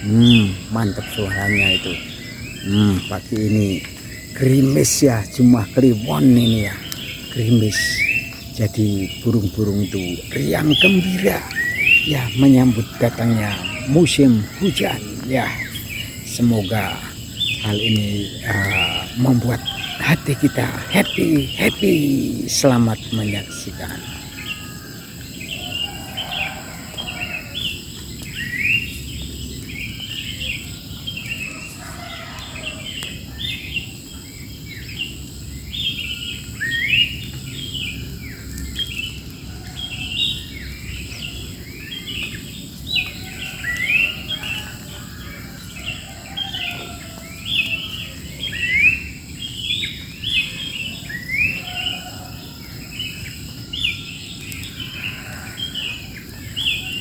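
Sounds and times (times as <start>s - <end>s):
birds chirping and calling: 0.0s - 57.0s
high insect drone: 0.0s - 57.0s.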